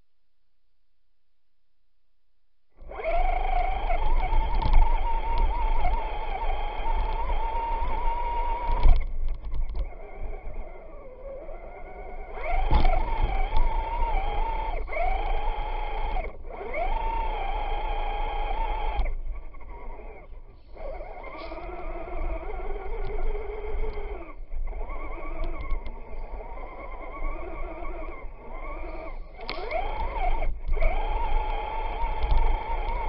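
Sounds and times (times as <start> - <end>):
electric motor whining: 2.8 - 33.0.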